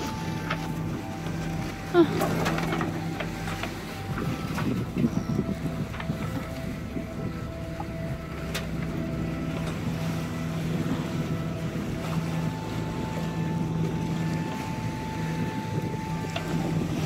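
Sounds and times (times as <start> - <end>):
boat engine hum: 0.0 - 17.0
water rushing along hull: 0.0 - 17.0
wind on microphone: 0.0 - 17.0.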